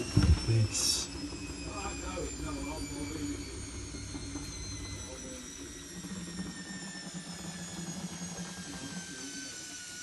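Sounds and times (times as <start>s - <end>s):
steady low hum: 0.0s - 10.0s
washing machine motor whining: 0.0s - 10.0s.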